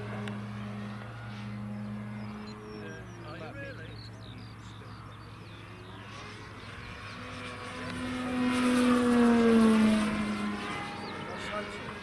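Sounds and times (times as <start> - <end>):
model plane propeller humming: 0.0 - 12.0.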